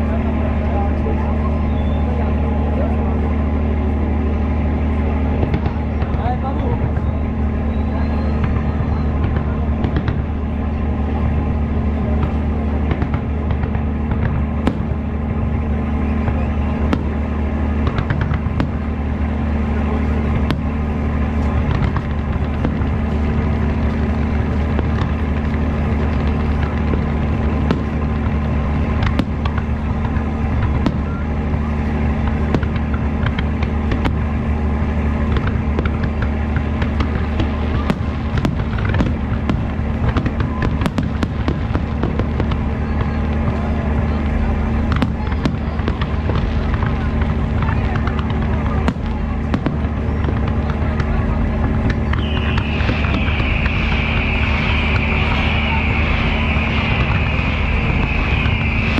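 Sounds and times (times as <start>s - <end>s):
fireworks popping and cracking: 0.0s - 58.9s
loud low rumble: 0.0s - 58.9s.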